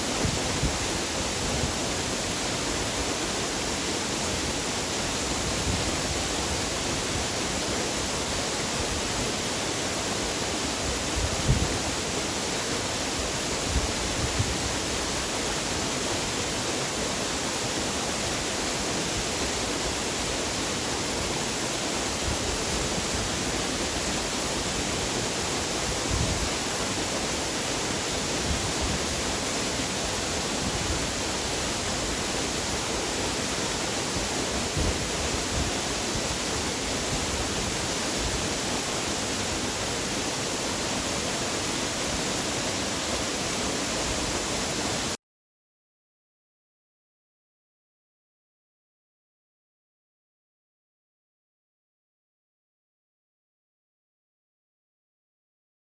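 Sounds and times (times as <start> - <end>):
waterfall rushing: 0.0 - 45.2.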